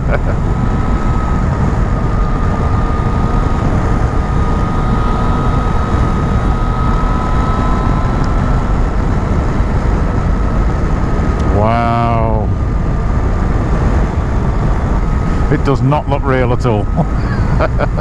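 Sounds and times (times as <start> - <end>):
faint steady whine: 0.0 - 18.0
motorcycle engine drone: 0.0 - 18.0
wind and road noise: 0.0 - 18.0.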